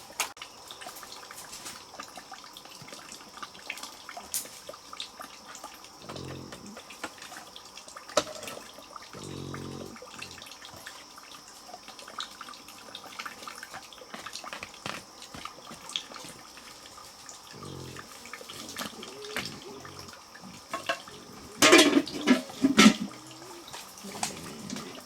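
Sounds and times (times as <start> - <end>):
water drips: 0.0 - 25.0
water splashing and trickling: 0.0 - 25.0.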